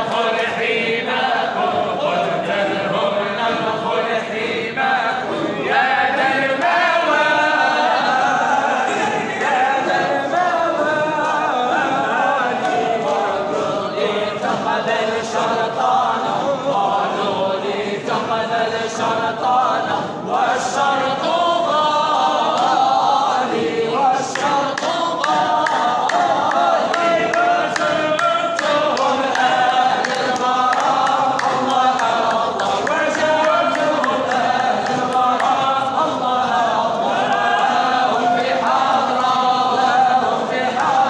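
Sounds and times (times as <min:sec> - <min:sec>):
men singing devotional chant: 0:00.0 - 0:41.0.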